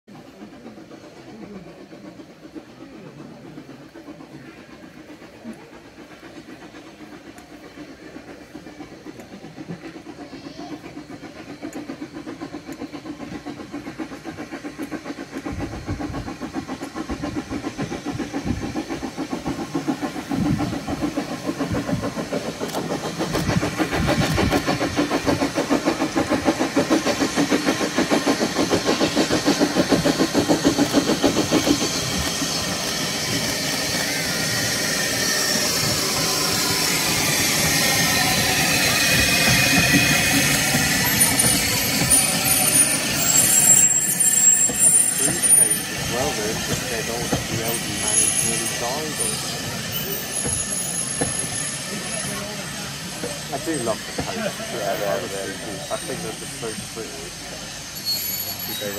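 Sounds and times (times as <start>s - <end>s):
steam hiss: 0.1s - 58.9s
steam locomotive exhaust beats: 0.1s - 58.9s.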